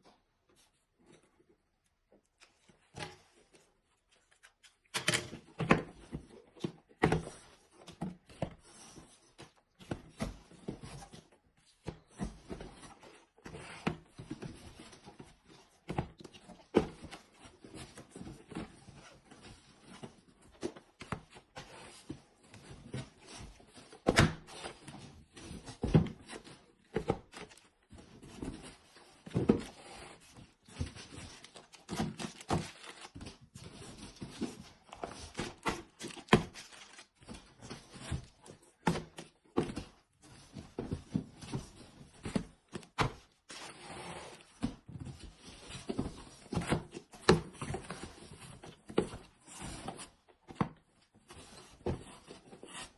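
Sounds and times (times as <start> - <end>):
cardboard rustling: 5.5 - 52.9.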